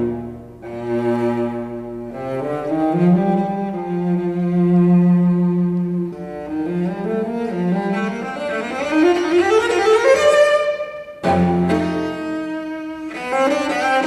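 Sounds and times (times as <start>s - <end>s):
bowed strings led by cello: 0.0s - 14.0s.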